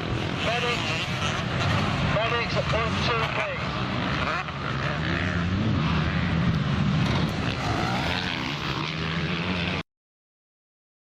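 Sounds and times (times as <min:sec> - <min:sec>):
motocross bike engines revving: 0:00.0 - 0:09.8.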